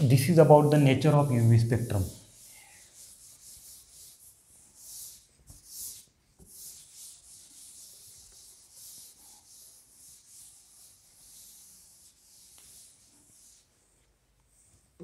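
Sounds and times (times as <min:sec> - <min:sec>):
duster rubbing on chalkboard: 0:00.0 - 0:14.7.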